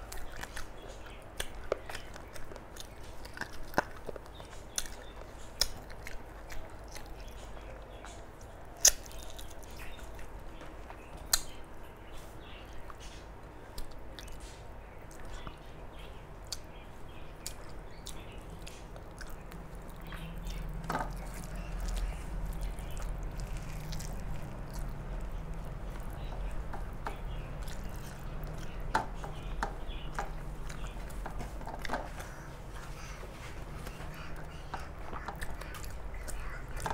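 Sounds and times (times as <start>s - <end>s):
chewing: 0.0s - 36.9s.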